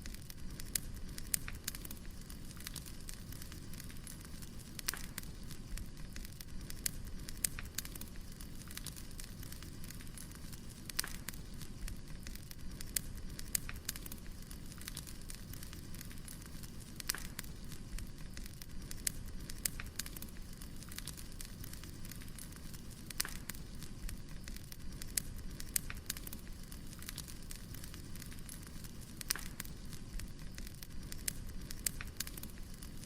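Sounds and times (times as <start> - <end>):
fire crackles and pops: 0.0 - 33.0
low rush of flames: 0.0 - 33.0.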